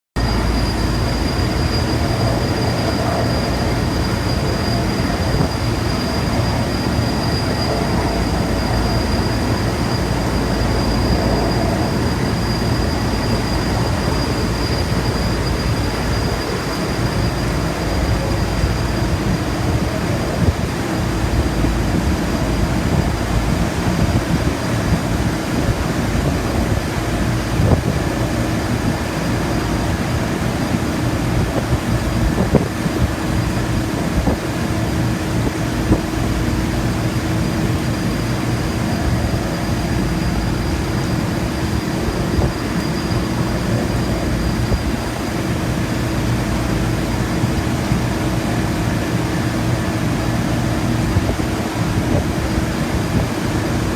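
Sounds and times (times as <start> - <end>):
loud machinery rumbling: 0.1 - 53.9
low hum: 0.2 - 51.4
faint high whine: 0.2 - 53.9.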